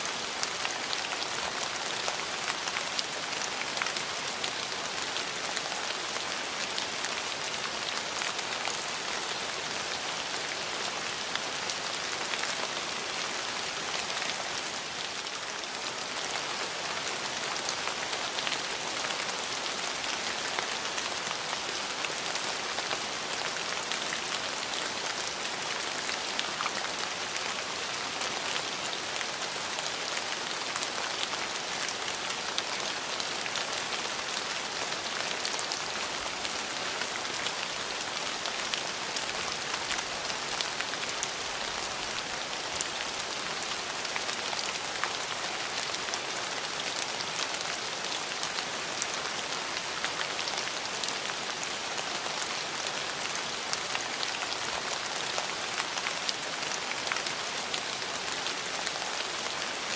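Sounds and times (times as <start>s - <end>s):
rain on hard surfaces: 0.0s - 59.9s.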